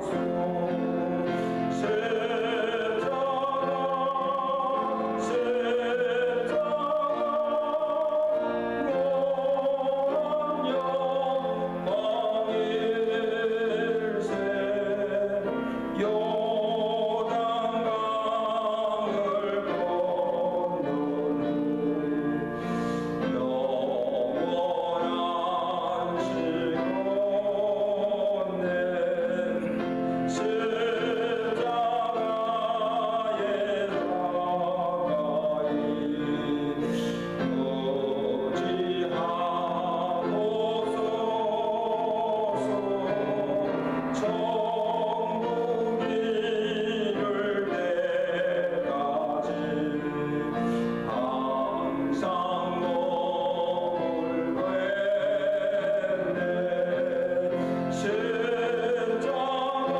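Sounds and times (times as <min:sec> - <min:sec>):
hymn singing: 0:00.0 - 0:59.9
musical accompaniment: 0:00.0 - 0:59.9.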